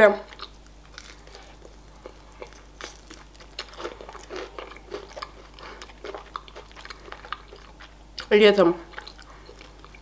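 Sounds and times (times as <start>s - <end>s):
person chewing crispy chicken: 0.3s - 8.3s, 8.9s - 10.0s.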